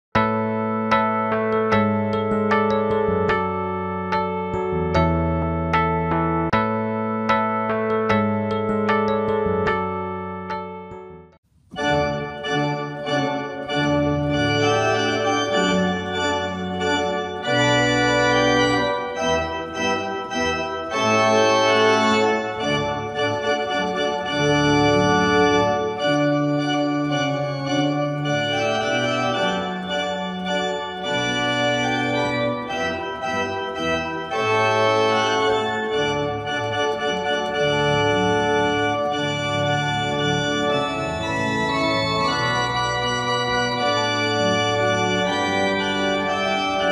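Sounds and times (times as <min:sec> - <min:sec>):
organ chords: 0:00.2 - 0:46.9.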